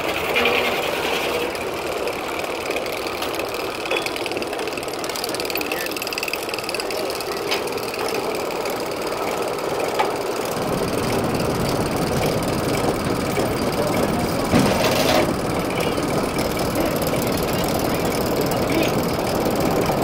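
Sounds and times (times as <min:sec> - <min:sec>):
loud clatter: 0:00.0 - 0:20.0
steam-engine sawmill running: 0:00.0 - 0:20.0.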